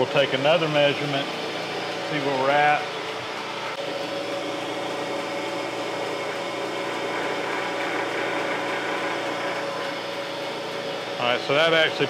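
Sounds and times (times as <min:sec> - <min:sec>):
surface grinder humming: 0:00.0 - 0:12.0.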